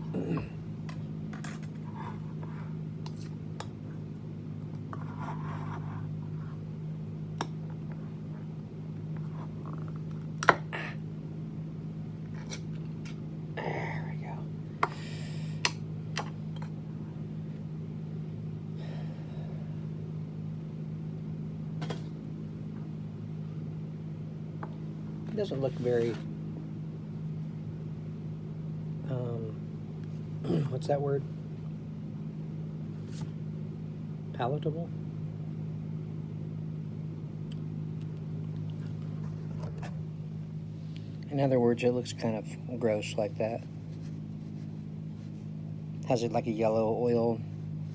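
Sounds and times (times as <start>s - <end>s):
low hum of room machinery: 0.0s - 47.9s.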